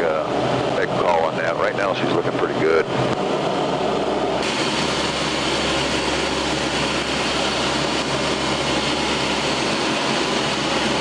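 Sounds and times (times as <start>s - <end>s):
turboprop engines in flight: 0.0s - 11.0s.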